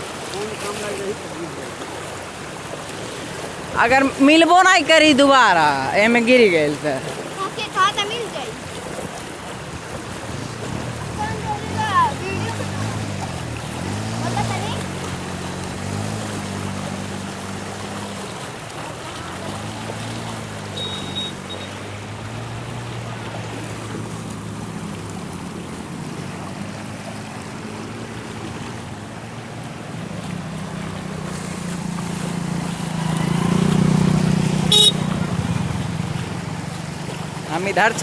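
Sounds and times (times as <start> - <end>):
rushing water: 0.0 - 38.0
engine running: 1.0 - 38.0.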